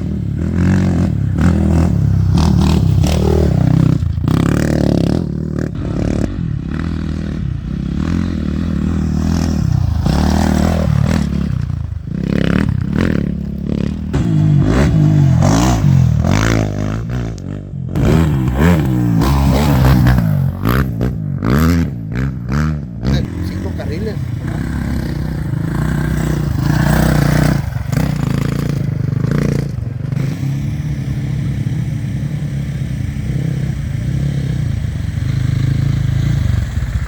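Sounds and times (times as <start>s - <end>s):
off-road motorcycles passing at speed: 0.0s - 37.0s.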